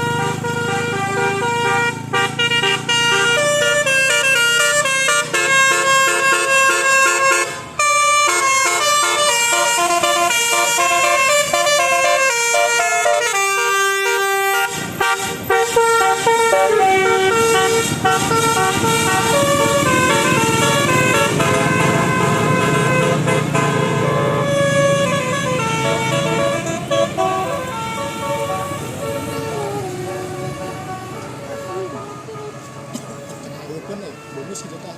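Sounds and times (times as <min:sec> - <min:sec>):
engine rumble: 0:00.0 - 0:34.9
musical bus horn playing a tune: 0:00.0 - 0:34.9.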